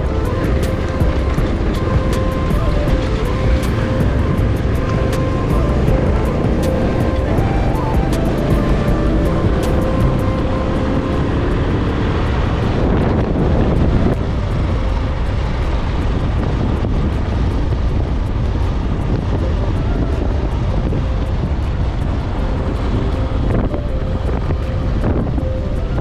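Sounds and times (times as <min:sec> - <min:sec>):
motorcycle engine: 0:00.0 - 0:25.9
road noise: 0:00.0 - 0:26.0
wind buffeting microphone: 0:00.0 - 0:26.0.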